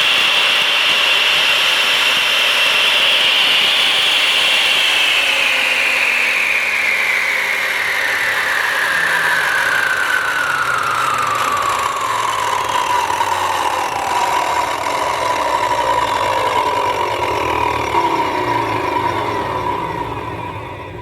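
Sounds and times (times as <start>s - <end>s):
concrete cutter whine running down: 0.0s - 21.0s.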